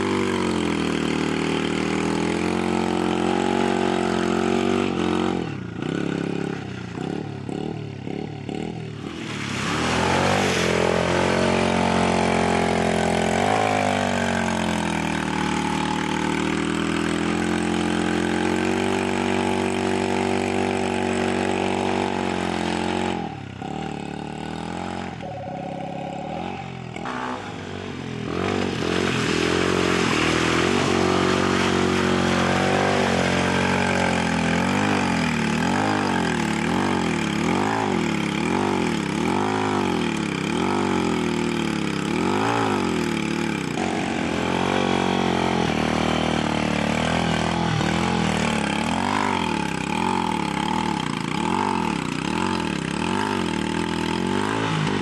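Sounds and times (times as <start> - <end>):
atv engine revving: 0.0 - 55.0
quad churning through mud: 0.0 - 55.0.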